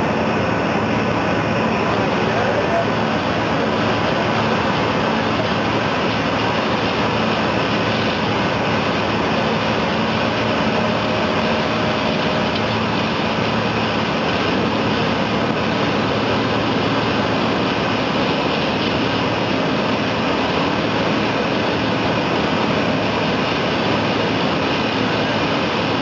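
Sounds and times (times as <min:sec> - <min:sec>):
high-pressure water jet hissing: 0:00.0 - 0:26.0
low steady hum: 0:00.0 - 0:26.0.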